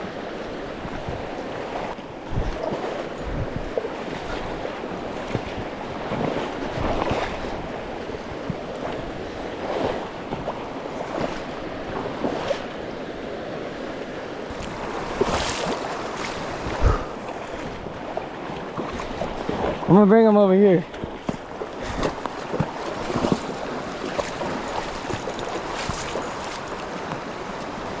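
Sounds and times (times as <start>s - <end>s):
river water rushing: 0.0s - 28.0s
water splashes: 0.0s - 28.0s.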